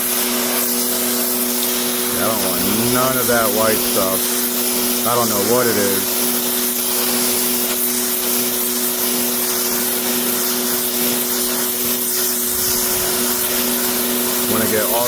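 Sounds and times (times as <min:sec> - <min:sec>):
pressure washer motor hum: 0:00.0 - 0:15.0
water spray hissing: 0:00.2 - 0:15.0.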